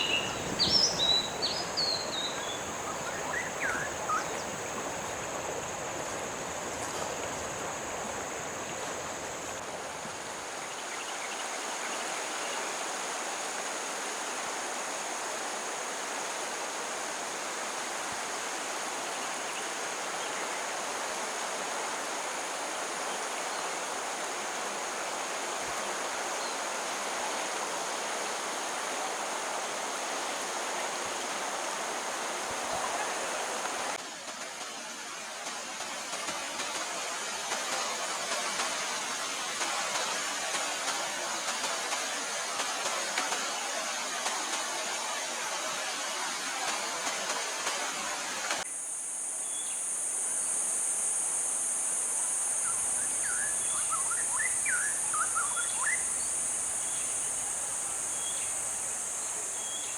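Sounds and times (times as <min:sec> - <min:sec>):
stream water rushing: 0:00.0 - 0:48.7, 0:53.0 - 0:59.9.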